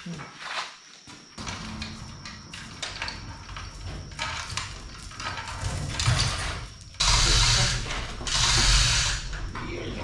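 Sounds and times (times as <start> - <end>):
steel chains rattling: 1.4 - 9.8.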